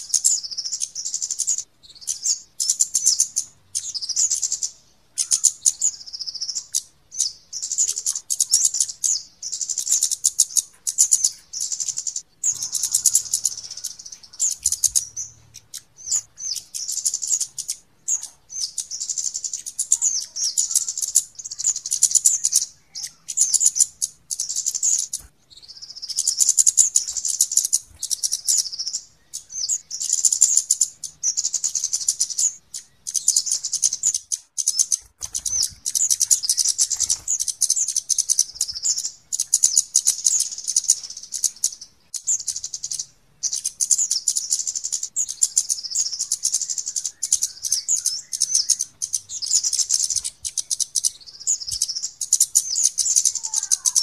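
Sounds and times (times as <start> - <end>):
bird chirps and chattering ticks: 0.0 - 54.0.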